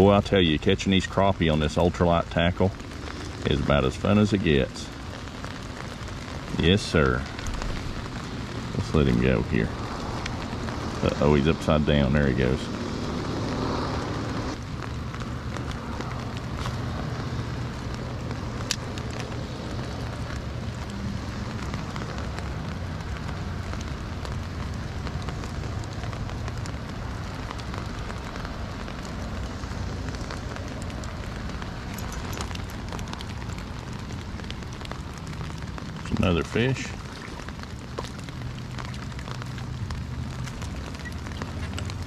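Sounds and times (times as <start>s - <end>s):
rain pattering on water: 0.0s - 42.0s.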